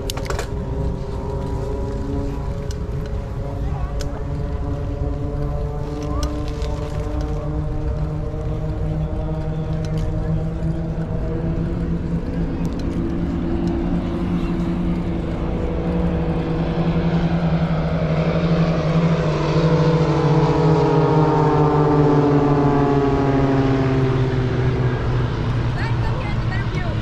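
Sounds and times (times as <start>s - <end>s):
aircraft engine droning overhead: 0.0s - 27.0s.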